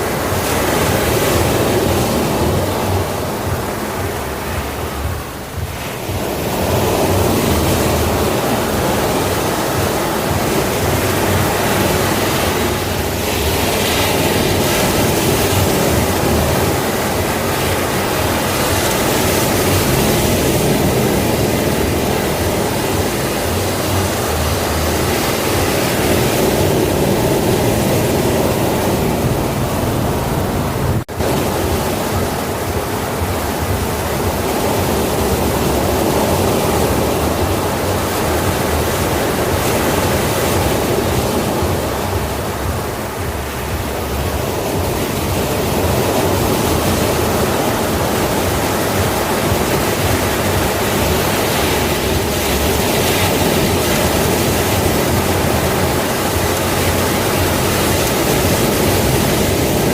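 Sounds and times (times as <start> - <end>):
sea waves surging: 0.0 - 59.9.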